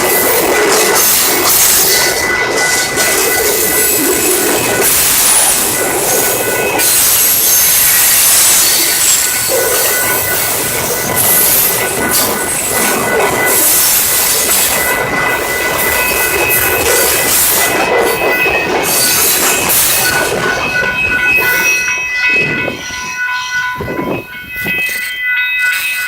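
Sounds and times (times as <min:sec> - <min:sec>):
high wheel squeals: 0:00.0 - 0:25.5
train rolling past: 0:00.0 - 0:26.0.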